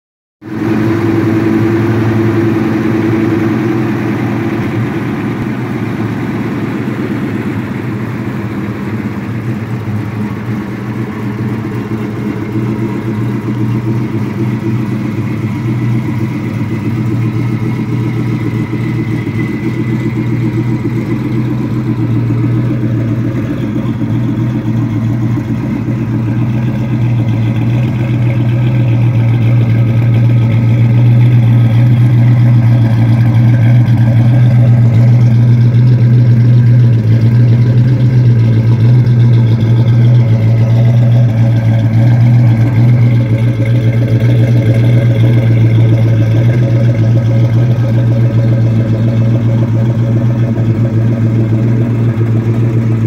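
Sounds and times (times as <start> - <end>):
car engine idling: 0.4 - 53.0.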